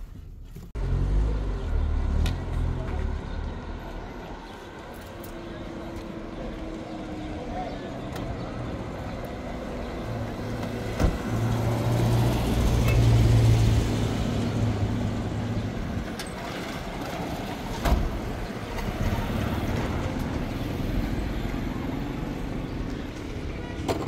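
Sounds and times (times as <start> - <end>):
background traffic: 0.0 - 24.0.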